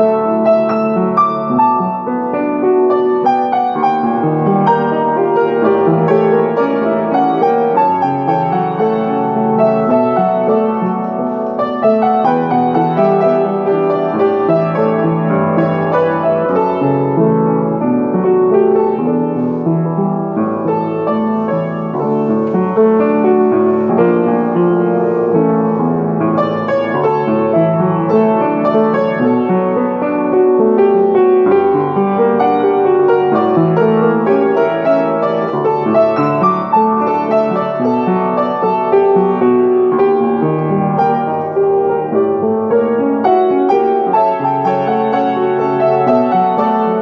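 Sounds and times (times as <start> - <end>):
solo piano playing: 0.0 - 47.0.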